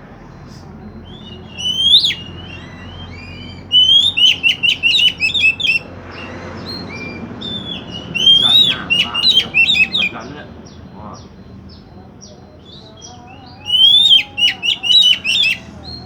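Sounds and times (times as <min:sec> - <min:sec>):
bird singing whistled notes: 0:00.3 - 0:16.0.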